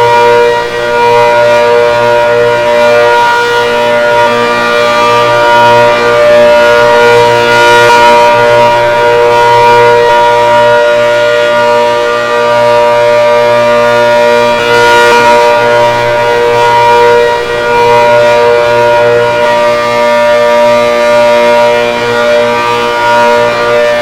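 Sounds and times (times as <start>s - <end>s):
warning siren steady tone: 0.0s - 24.0s.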